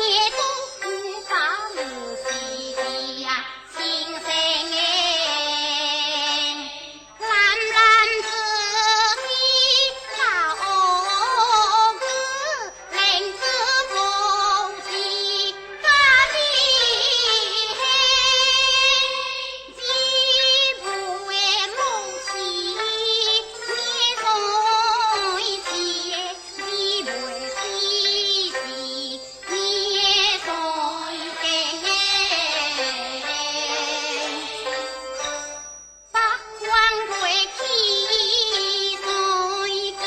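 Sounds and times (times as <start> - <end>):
high voice opera singing: 0.0 - 35.0, 36.2 - 40.0
traditional instrumental accompaniment: 0.0 - 40.0.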